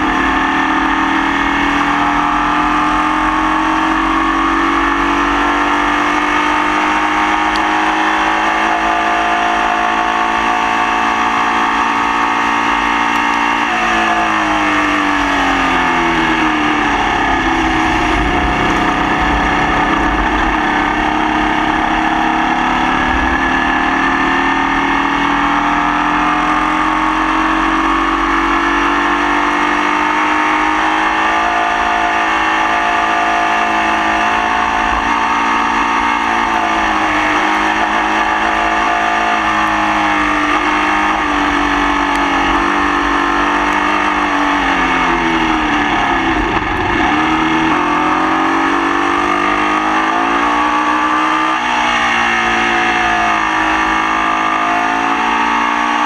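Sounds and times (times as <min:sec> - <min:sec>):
race car engine misfiring: 0:00.0 - 0:55.9.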